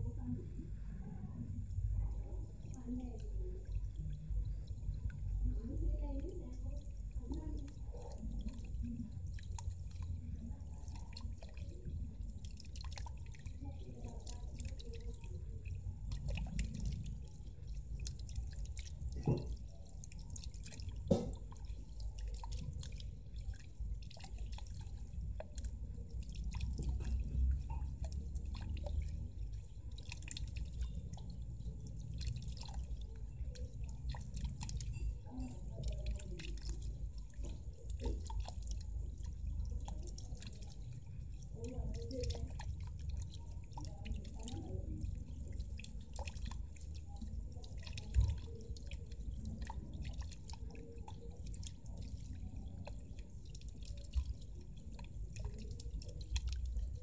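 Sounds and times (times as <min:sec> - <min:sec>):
fountain water splashing: 0:04.9 - 0:57.0.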